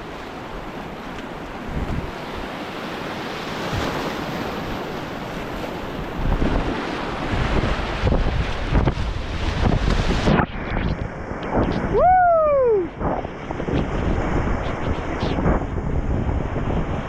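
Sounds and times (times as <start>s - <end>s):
wind buffeting microphone: 1.5s - 2.5s, 3.4s - 17.0s.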